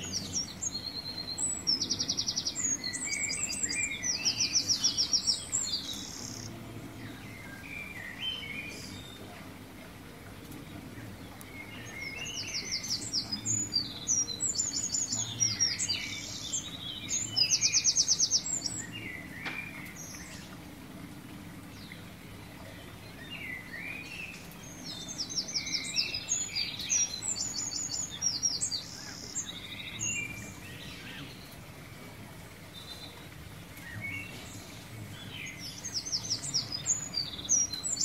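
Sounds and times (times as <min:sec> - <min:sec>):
songbirds singing and trilling: 0:00.0 - 0:38.0.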